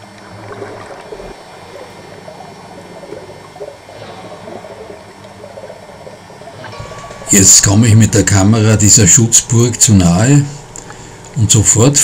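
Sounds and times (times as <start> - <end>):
underwater gurgling and sloshing: 0.0 - 11.3.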